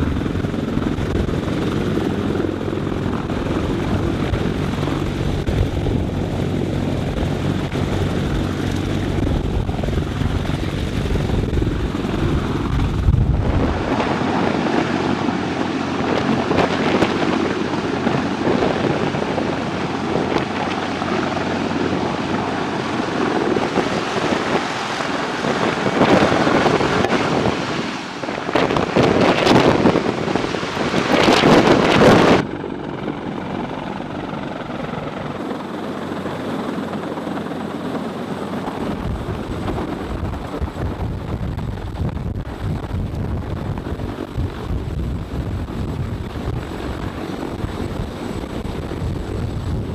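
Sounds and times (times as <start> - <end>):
helicopter running: 0.0 - 49.9.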